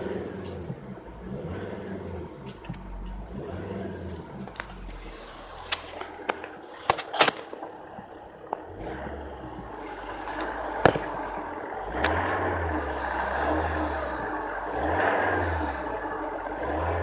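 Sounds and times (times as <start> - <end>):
diesel car engine rumble: 0.0 - 17.0.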